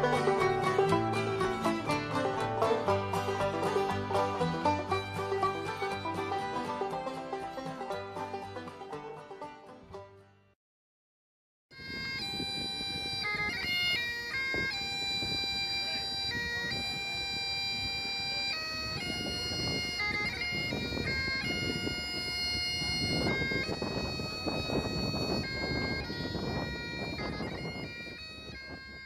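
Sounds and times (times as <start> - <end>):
bagpipe playing: 0.0 - 9.3, 11.8 - 29.0.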